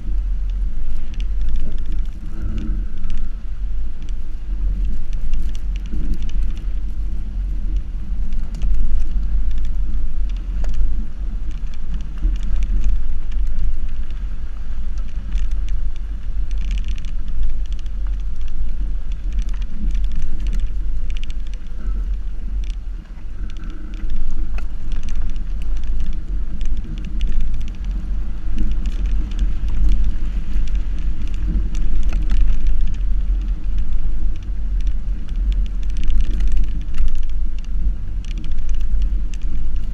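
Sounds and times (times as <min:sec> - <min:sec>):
gravel ticking under tyre: 0:00.0 - 0:39.9
tyre and wind rumble: 0:00.0 - 0:39.9.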